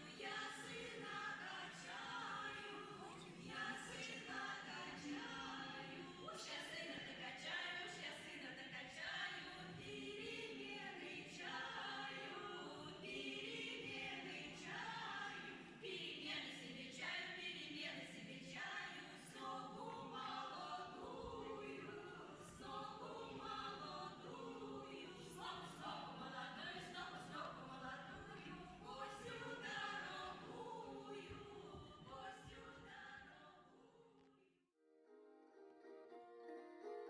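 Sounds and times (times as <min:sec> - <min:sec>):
choir singing unaccompanied: 0:00.0 - 0:34.2.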